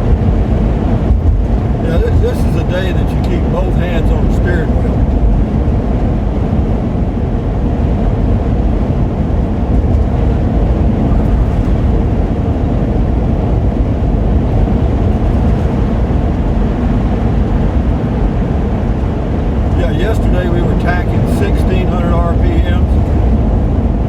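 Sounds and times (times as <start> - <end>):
engine noise inside cab: 0.0 - 24.0
road noise: 0.0 - 24.0
wind noise: 0.0 - 24.0.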